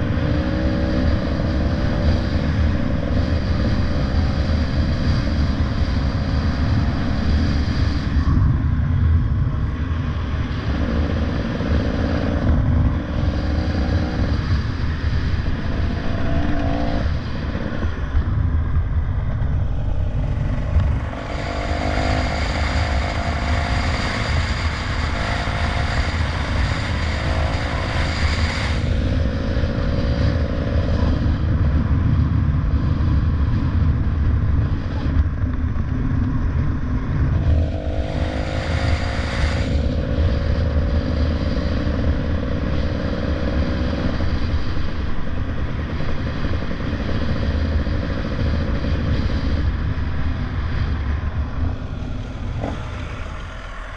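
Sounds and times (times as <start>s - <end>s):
motorcycle engine running: 0.0s - 53.9s
wind rumble on microphone: 0.0s - 53.9s.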